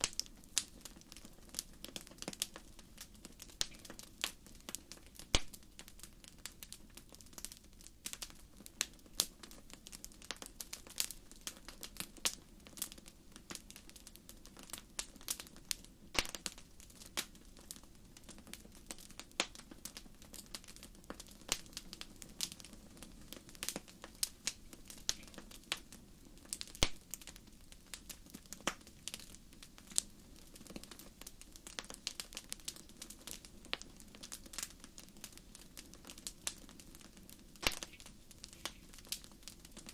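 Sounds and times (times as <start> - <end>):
low rush of burning fire: 0.0 - 39.9
wood fire pops and snaps: 0.0 - 39.9.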